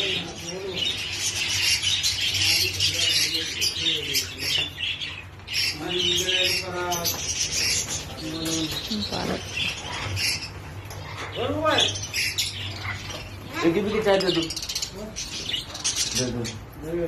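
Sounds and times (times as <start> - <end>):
parrots chattering and squawking: 0.0 - 17.0.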